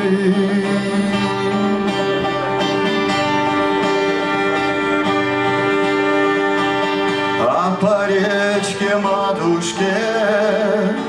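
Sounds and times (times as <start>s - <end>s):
acoustic guitar strumming: 0.0s - 11.0s
person singing: 0.0s - 11.0s
violin long notes: 0.0s - 11.0s.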